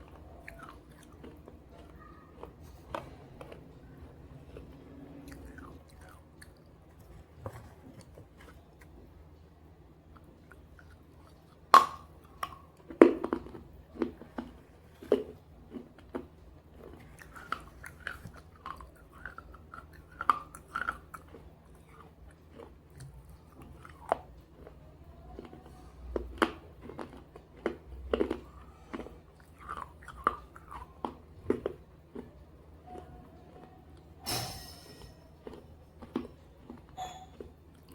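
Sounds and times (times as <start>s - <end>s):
crunching and chewing: 0.0s - 34.2s, 35.2s - 37.9s.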